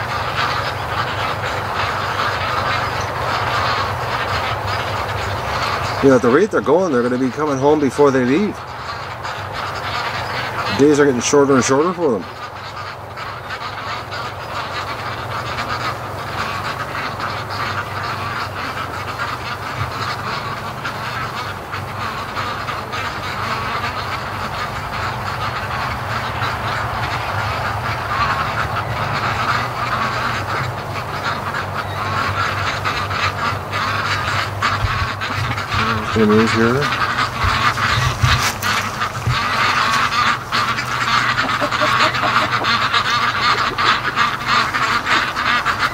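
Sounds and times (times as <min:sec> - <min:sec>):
flock of ducks quacking: 0:00.0 - 0:45.9.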